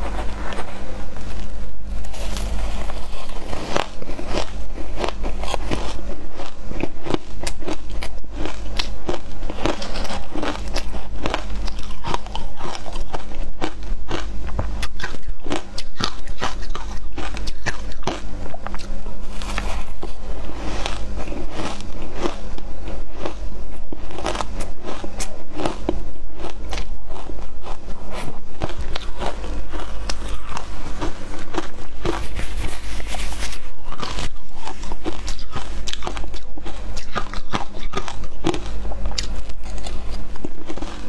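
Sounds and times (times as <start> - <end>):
ice crunching being chewed: 0.0 - 41.0
low hum: 0.0 - 41.0.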